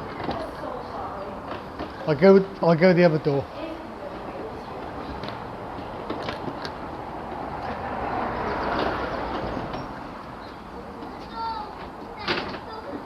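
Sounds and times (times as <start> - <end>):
mobility scooter rumbling: 0.0 - 13.0.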